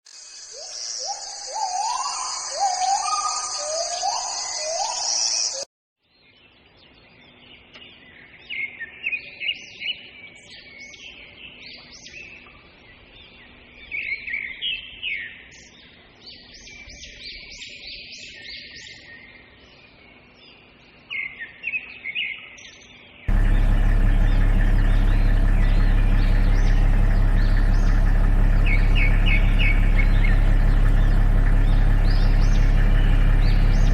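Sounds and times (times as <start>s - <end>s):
bird chirping: 0.1s - 5.6s, 6.2s - 33.9s.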